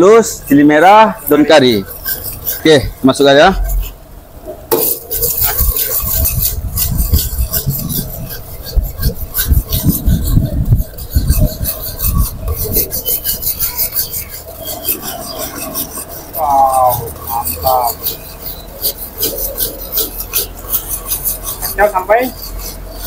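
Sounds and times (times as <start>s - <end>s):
metal ladle scraping a wok: 1.1s - 4.0s, 4.7s - 23.0s.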